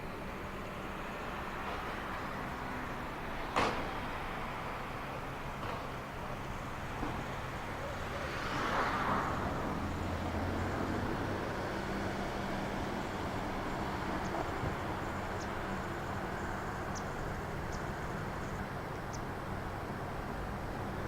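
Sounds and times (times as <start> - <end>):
vehicle low hum: 0.0 - 21.0.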